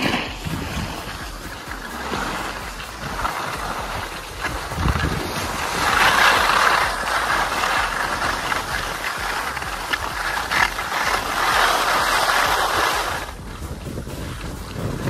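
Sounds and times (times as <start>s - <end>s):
skis scraping on snow: 0.0s - 15.0s
wind on microphone: 0.0s - 15.0s.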